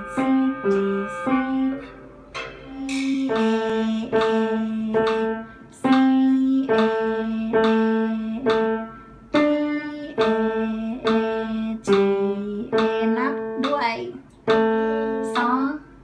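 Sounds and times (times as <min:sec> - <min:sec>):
upright piano played slowly: 0:00.0 - 0:16.0.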